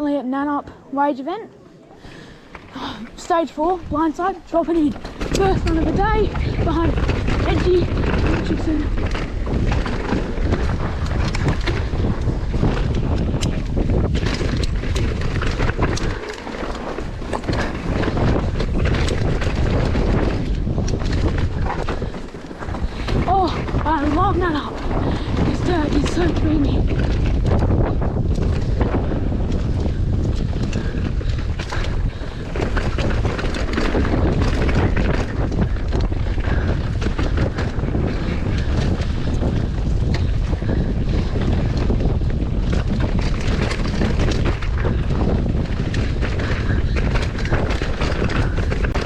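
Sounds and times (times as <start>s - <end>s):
wind buffeting microphone: 0.0s - 49.0s
bike clicking and rattling: 2.0s - 49.0s
tyres on dirt: 2.1s - 49.0s.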